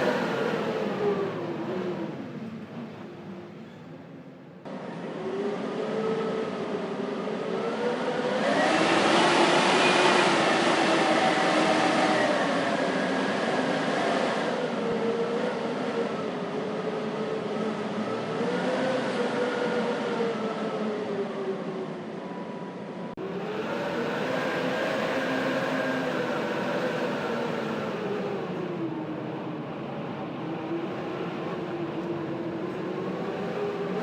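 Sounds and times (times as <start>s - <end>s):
blizzard wind howling: 0.0s - 34.0s.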